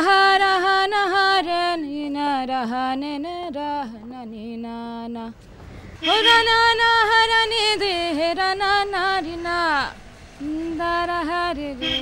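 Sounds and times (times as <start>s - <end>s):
person singing unaccompanied: 0.0s - 5.4s, 6.0s - 12.0s.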